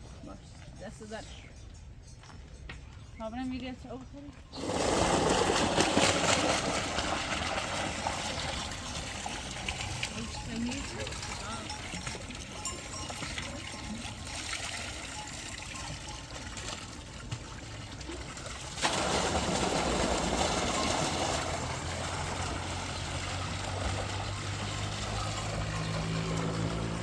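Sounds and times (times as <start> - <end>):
water trickling and pouring: 4.5 - 27.0.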